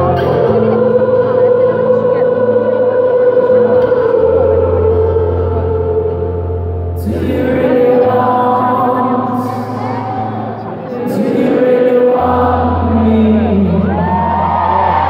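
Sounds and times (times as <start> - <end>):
low acoustic accompaniment: 0.0 - 15.0.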